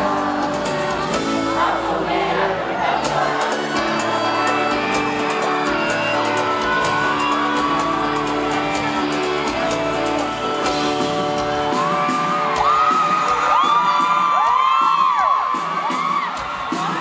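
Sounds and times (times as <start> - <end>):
audience shouting: 0.0 - 17.0
crowd screaming and whooping: 0.0 - 17.0
live band playing: 0.0 - 17.0.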